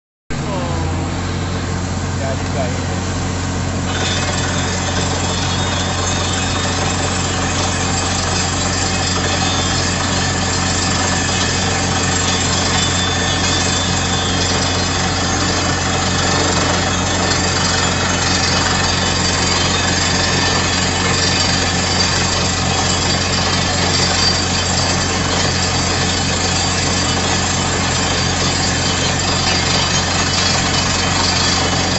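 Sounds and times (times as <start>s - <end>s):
engine drone: 0.3s - 31.9s
drill hammering and hissing: 3.7s - 31.9s.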